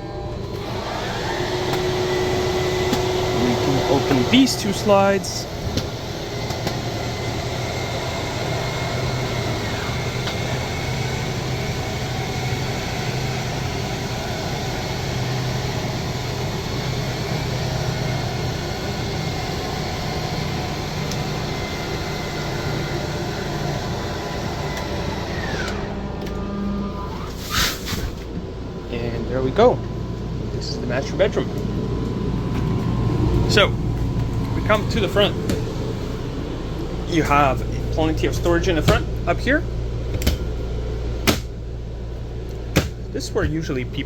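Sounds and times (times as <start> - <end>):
slide-out mechanism humming: 0.0 - 44.0.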